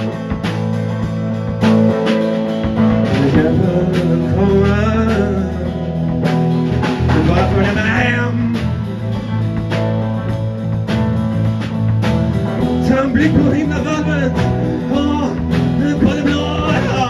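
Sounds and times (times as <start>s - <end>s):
rock band playing: 0.0s - 17.0s
wavering lead guitar melody: 0.0s - 17.0s.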